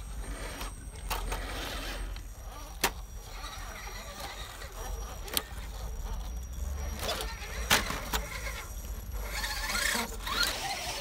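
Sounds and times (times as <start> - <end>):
high motor whine: 0.0 - 11.0.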